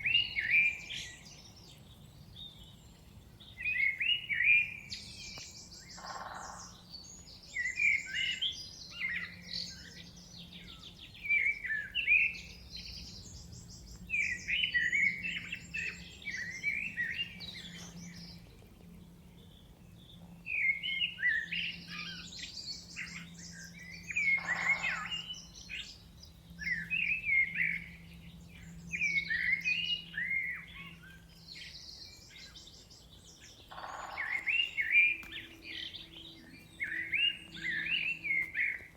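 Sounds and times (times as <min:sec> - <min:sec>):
faint low hum: 0:00.0 - 0:38.9
low falling bird calls: 0:00.0 - 0:38.9
songbirds singing: 0:00.0 - 0:38.9.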